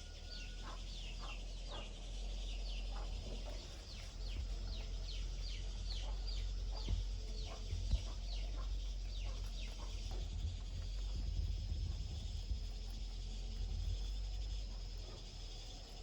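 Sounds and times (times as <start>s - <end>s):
birds chirping: 0.0s - 15.3s
steady low rumble: 0.7s - 16.0s.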